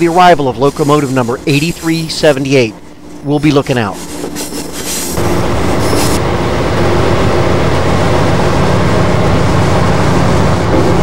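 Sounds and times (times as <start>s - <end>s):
diesel locomotive engine drone: 0.0s - 11.0s
wheel and rail noise: 0.0s - 11.0s.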